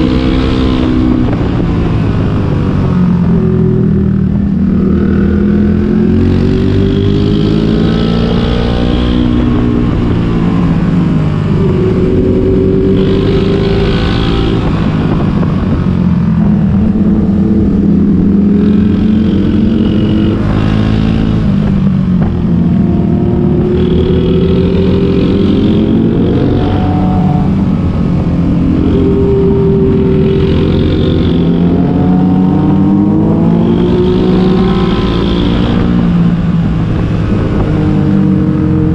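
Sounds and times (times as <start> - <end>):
motorcycle engine accelerating: 0.0 - 38.9
wind noise: 0.0 - 38.9.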